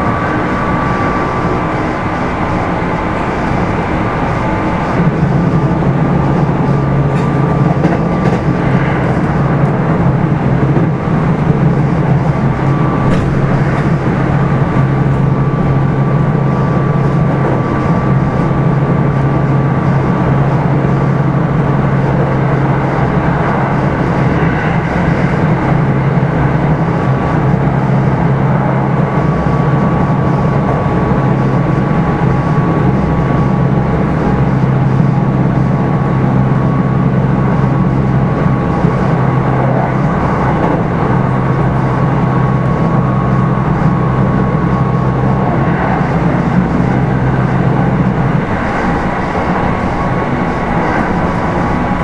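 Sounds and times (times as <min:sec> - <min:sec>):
faint train motor whine: 0:00.0 - 0:52.0
train wheels rumbling on rail: 0:00.0 - 0:52.0
train clicks: 0:01.2 - 0:36.8, 0:37.4 - 0:44.6.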